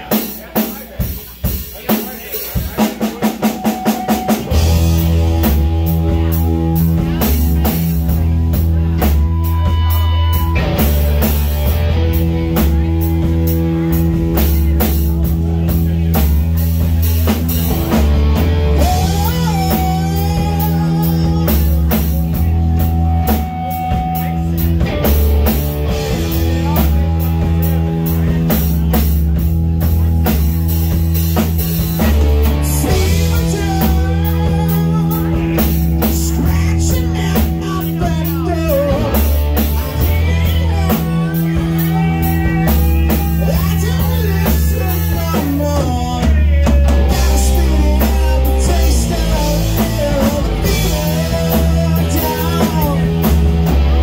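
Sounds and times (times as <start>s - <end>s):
rock band playing loudly: 0.0s - 54.0s
electric guitar bent lead notes: 2.8s - 54.0s.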